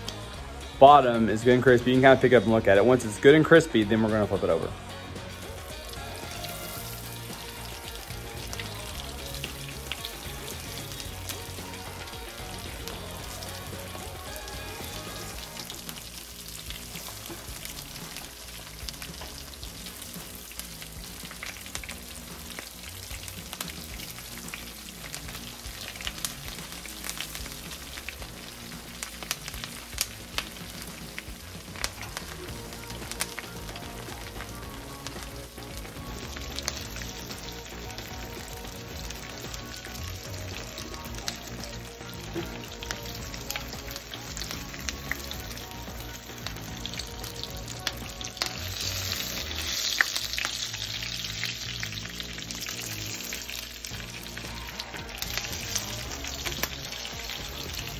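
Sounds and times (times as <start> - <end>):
frying sizzle with crackles and pops: 0.0 - 57.9.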